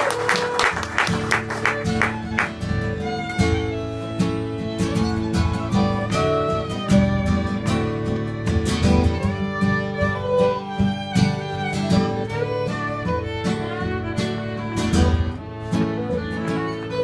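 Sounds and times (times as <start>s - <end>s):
fiddle playing melody: 0.0s - 17.0s
strummed acoustic guitar: 0.2s - 17.0s.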